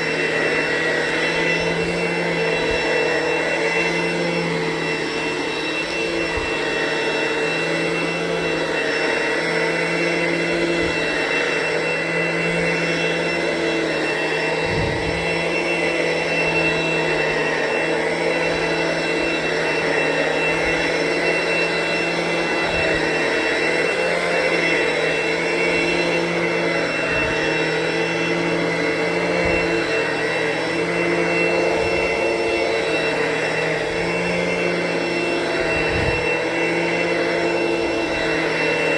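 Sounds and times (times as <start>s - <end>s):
upright vacuum running over carpet: 0.0s - 38.9s.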